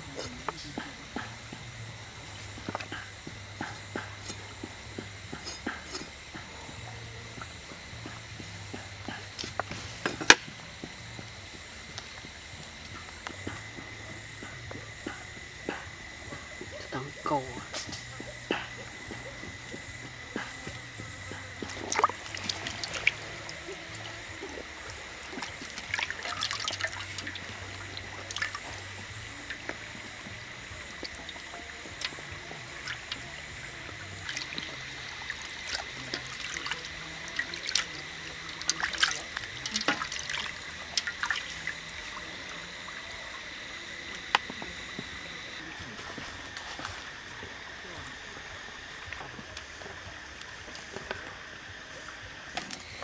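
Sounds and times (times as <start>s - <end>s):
steady high whine: 0.0s - 53.0s
water trickling and dripping: 0.0s - 53.0s.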